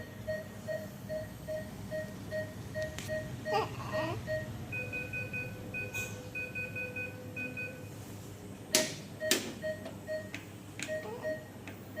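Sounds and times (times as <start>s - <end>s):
patient monitor alarm beeping: 0.0s - 8.0s, 9.2s - 12.0s.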